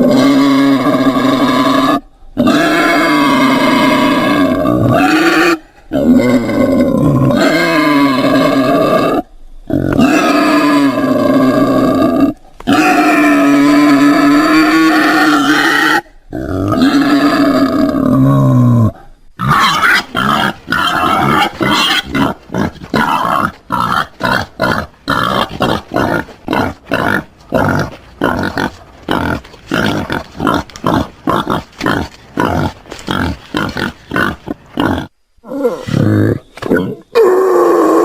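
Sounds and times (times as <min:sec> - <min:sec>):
wild boar grunting: 0:00.0 - 0:38.0.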